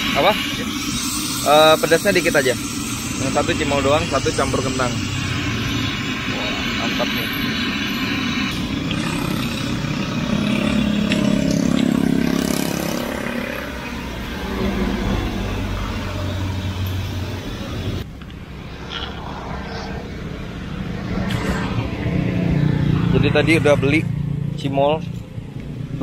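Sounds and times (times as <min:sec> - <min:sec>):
car engines passing: 0:02.7 - 0:26.0
motor scooter engines passing: 0:05.0 - 0:26.0.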